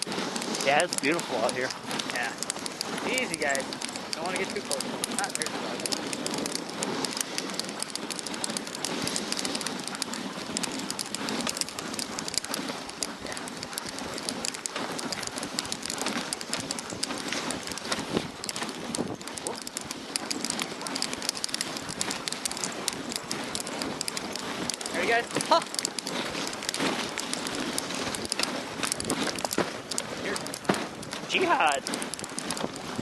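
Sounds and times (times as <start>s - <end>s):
sled runners sliding over snow: 0.0s - 33.0s.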